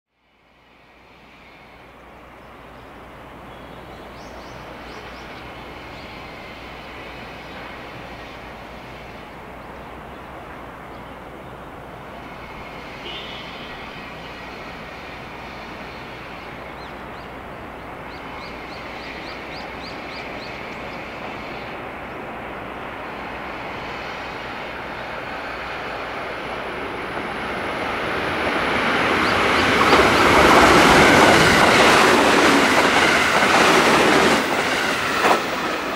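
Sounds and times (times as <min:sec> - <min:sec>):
electric train rumbling: 0:00.3 - 0:35.9.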